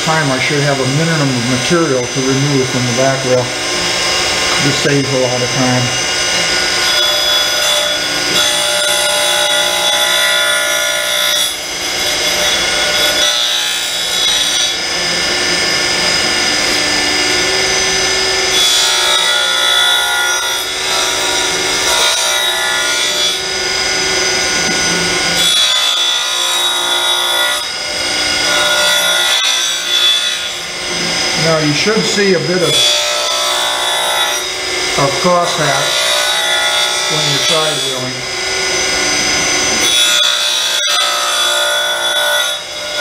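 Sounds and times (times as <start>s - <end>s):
grinding wheel on steel: 0.0s - 43.0s.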